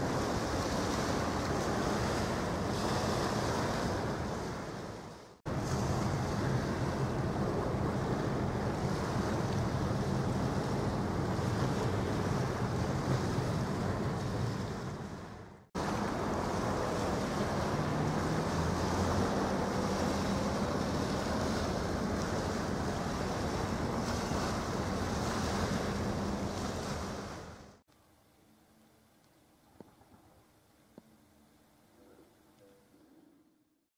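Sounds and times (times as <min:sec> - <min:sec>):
small waves washing on beach: 0:00.0 - 0:27.8
wind on microphone: 0:00.0 - 0:27.8.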